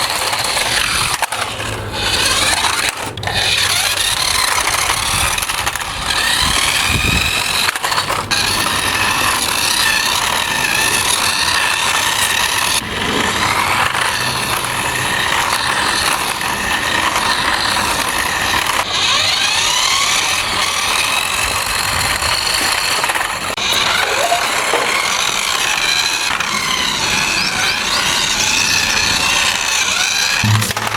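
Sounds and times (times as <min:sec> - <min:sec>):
electric motor whining: 0:00.0 - 0:30.9
wheels rushing on ground: 0:00.0 - 0:30.9.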